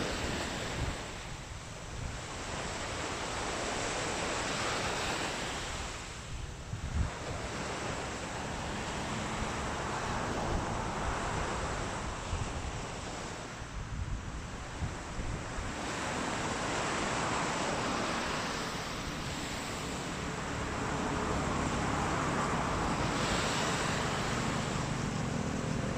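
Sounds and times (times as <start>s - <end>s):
sea waves breaking on beach: 0.0s - 25.9s
wind buffeting microphone: 0.0s - 25.9s.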